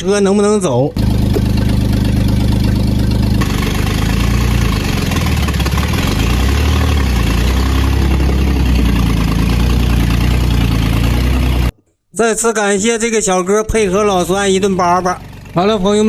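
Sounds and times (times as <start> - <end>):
old truck engine running: 0.3 - 11.7, 13.8 - 16.0.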